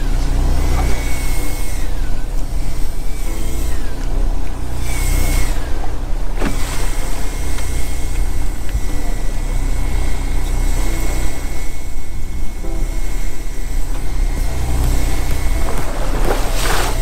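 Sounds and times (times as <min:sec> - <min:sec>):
boat engine rumbling: 0:00.0 - 0:17.0
high thin whine: 0:00.0 - 0:17.0.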